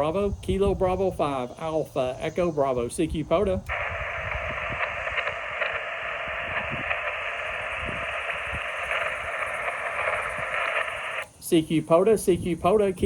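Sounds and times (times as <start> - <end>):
sharp static crackles: 0.0 - 12.8
radio static hiss: 0.0 - 13.0.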